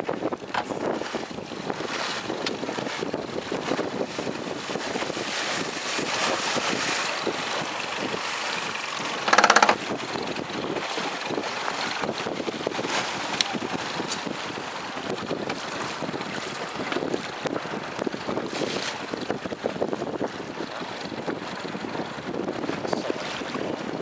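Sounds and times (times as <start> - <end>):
choppy sea water: 0.0 - 24.0
wind buffeting microphone: 0.0 - 24.0.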